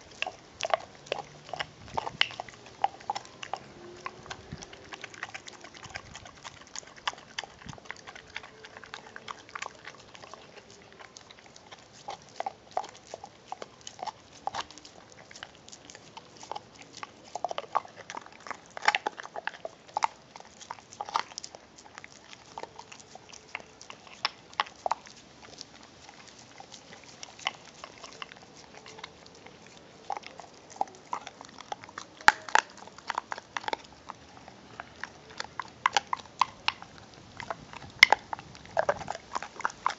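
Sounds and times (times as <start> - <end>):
dog gnawing bone: 0.0 - 39.9
teeth crunching on bone: 0.0 - 39.9.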